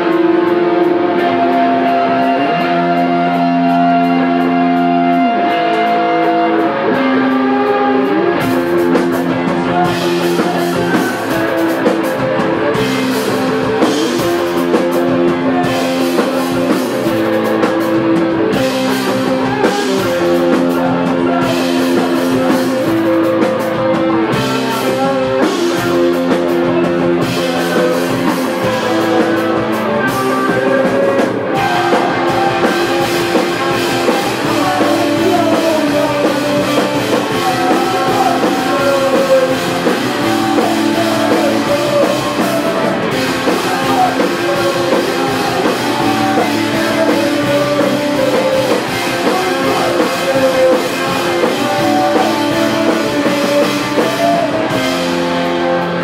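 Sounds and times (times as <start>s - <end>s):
bass guitar: 0.0s - 56.0s
electric guitar chords: 0.0s - 56.0s
drum kit with cymbals: 8.4s - 56.0s.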